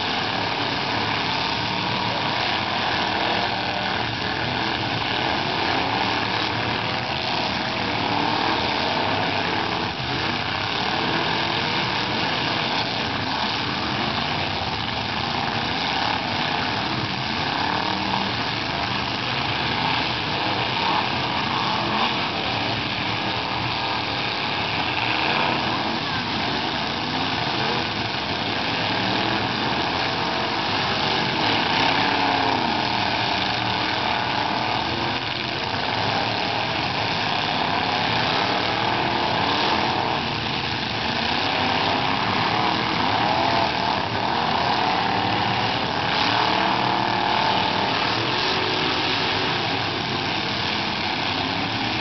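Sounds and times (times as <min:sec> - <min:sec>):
truck engines revving: 0:00.0 - 0:52.0.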